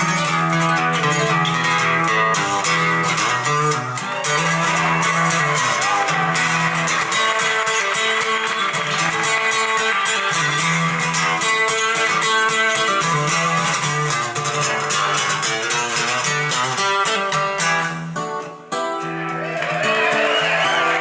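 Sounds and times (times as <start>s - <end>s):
guitar band music over speaker: 0.0s - 21.0s.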